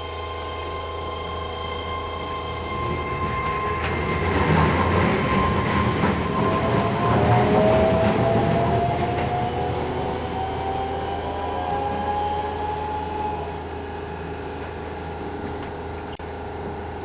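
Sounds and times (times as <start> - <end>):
rising train whine: 0.0 - 17.0
wheels rumbling on track: 0.0 - 17.0.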